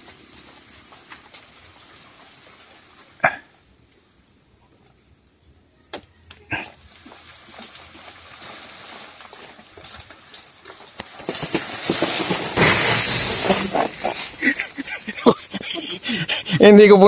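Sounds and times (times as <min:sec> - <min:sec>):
leafy plants rustling: 0:00.0 - 0:05.0, 0:06.4 - 0:17.0.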